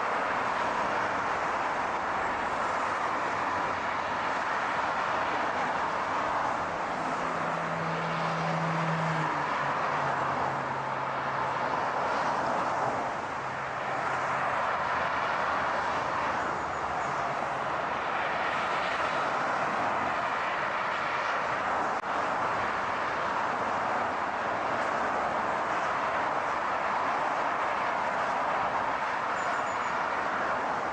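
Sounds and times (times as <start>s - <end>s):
road noise: 0.0s - 30.9s.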